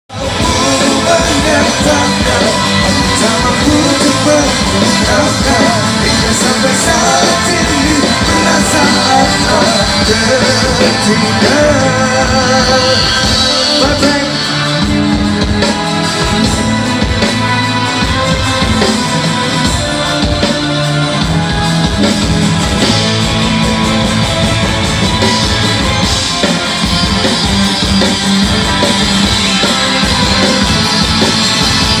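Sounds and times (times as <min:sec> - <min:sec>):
live rock band playing: 0:00.1 - 0:32.0.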